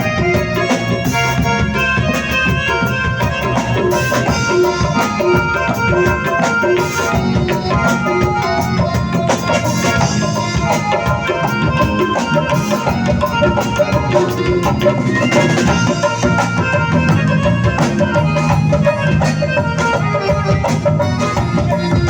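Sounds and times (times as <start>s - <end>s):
hand drums beat: 0.0s - 22.0s
live band playing: 0.0s - 22.0s.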